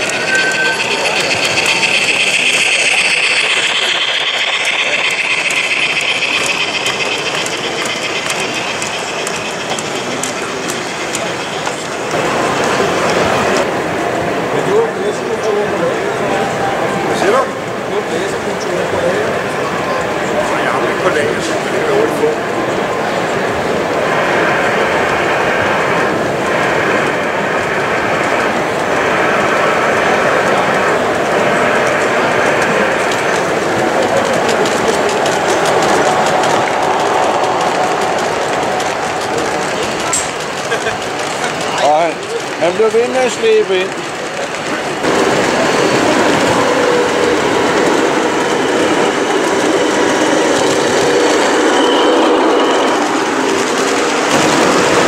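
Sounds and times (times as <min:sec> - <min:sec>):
train wheels clicking on track: 0:00.0 - 0:55.0.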